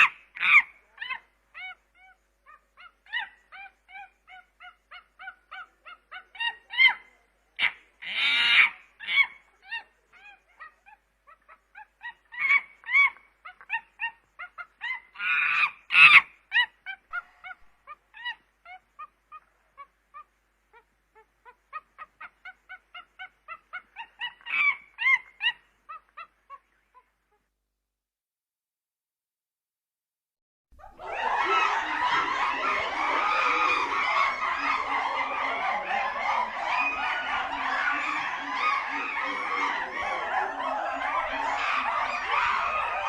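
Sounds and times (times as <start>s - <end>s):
chimpanzee harsh outbursts: 0.0s - 19.5s, 21.5s - 26.6s, 30.8s - 43.0s
chimpanzee hooting calls: 0.0s - 27.1s, 30.8s - 43.0s.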